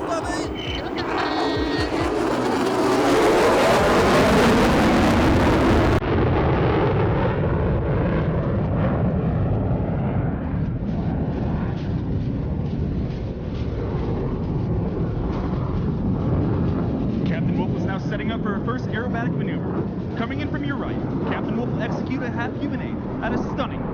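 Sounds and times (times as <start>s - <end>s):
jet engine roar with crackle: 0.0s - 23.9s.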